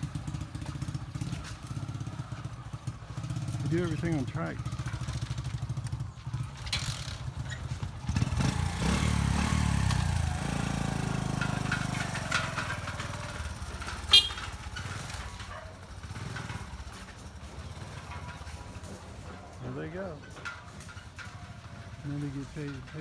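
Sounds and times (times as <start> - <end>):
motorcycle trike engine: 0.0 - 23.0.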